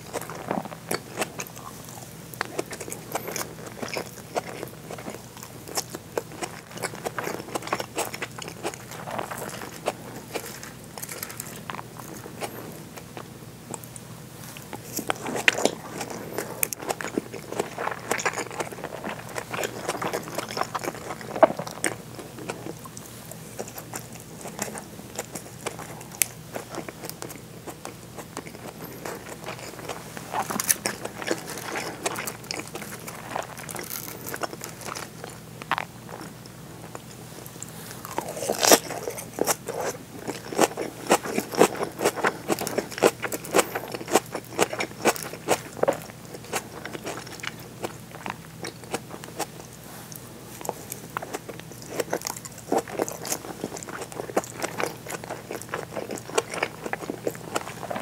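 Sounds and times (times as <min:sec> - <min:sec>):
close chewing: 0:00.0 - 0:58.0.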